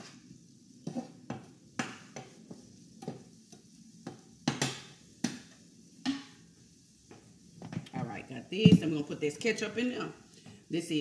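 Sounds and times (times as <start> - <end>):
faint sizzling: 0.0 - 11.0.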